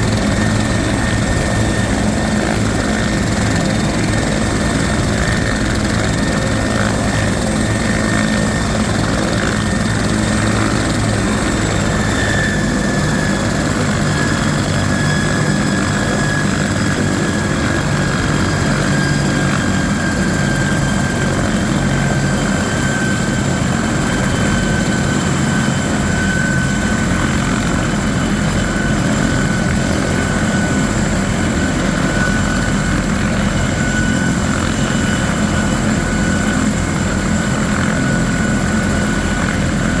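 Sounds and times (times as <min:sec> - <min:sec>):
helicopter rotor rumble: 0:00.0 - 0:40.0
high turbine whine: 0:00.0 - 0:40.0.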